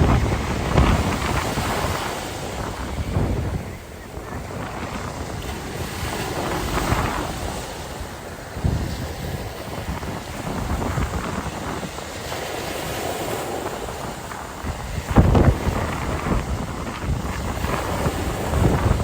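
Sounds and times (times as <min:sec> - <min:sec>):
sea waves: 0:00.0 - 0:19.0
wind buffeting microphone: 0:00.0 - 0:19.0.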